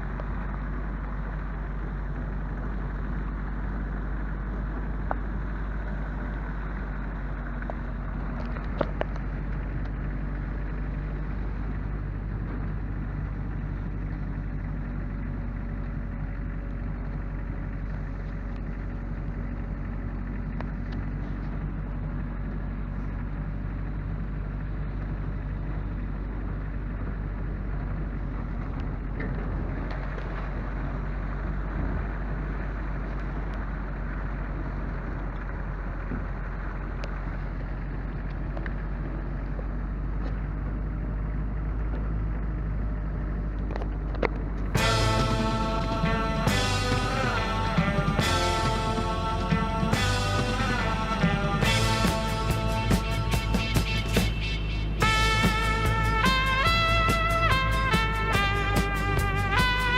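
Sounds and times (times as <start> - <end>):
engine running with low hum: 0.0 - 59.9.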